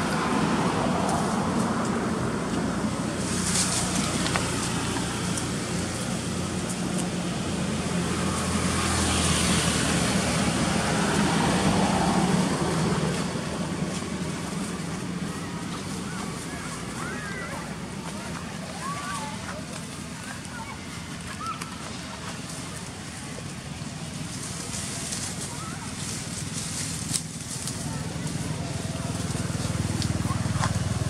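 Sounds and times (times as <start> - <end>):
traffic noise with engine hum: 0.0 - 31.0
vehicle passing: 0.0 - 31.0.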